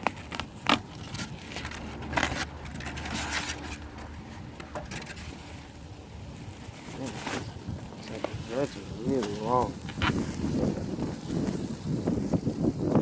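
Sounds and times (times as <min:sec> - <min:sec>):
handling noises: 0:00.0 - 0:12.3
wind rumbling on microphone: 0:00.0 - 0:13.0.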